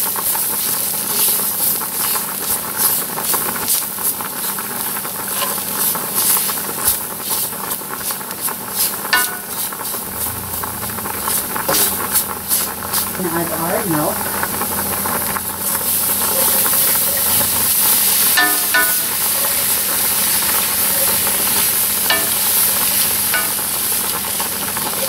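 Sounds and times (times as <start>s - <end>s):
onions sizzling in hot oil: 0.0s - 25.0s
wooden spatula scraping a pan: 0.2s - 13.6s, 14.6s - 23.7s.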